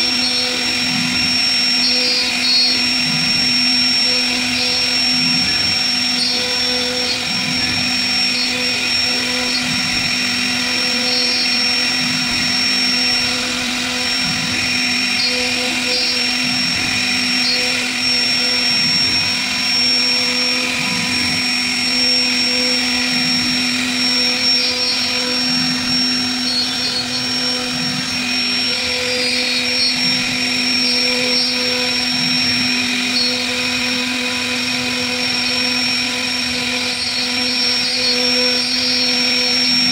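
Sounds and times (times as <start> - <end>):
router bit cutting wood: 0.0 - 39.9
router spindle whine: 0.0 - 39.9.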